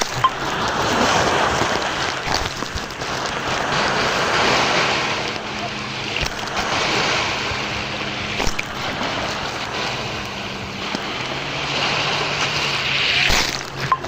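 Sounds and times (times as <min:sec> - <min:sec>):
low steady hum: 0:00.0 - 0:14.0
waves washing in: 0:00.0 - 0:14.0.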